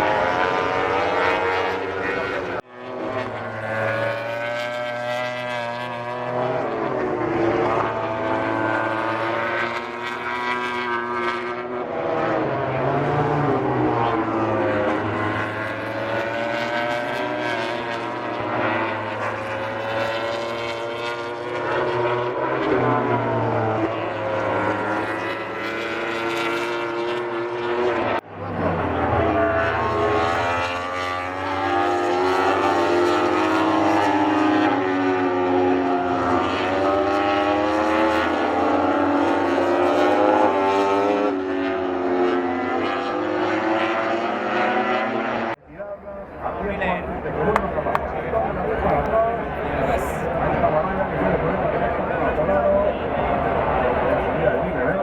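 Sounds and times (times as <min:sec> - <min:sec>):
racing motorcycle engines revving: 0:00.0 - 0:55.0.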